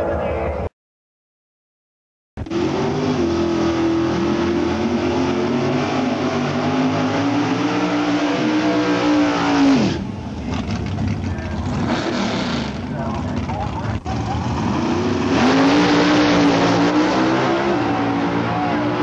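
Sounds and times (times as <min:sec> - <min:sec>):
drag car engine revving: 0:02.4 - 0:19.0.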